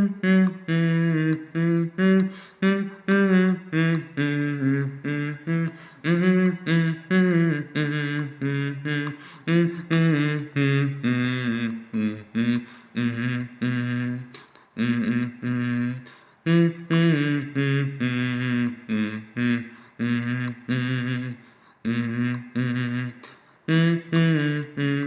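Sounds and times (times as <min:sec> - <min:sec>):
person humming a melody: 0:00.0 - 0:25.0.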